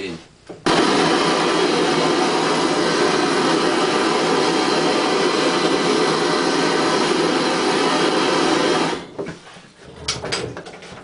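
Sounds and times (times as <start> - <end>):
blowtorch hissing: 0.0 - 9.3.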